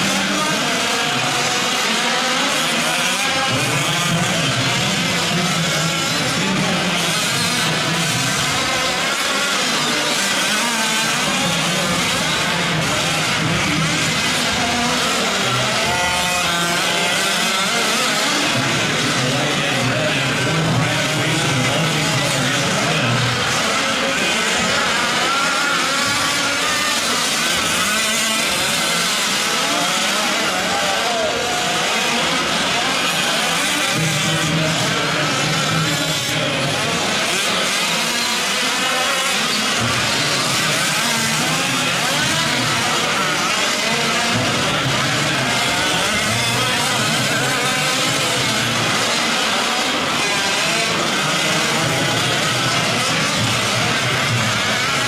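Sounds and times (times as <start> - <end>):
small two-stroke engines revving: 0.0 - 55.0.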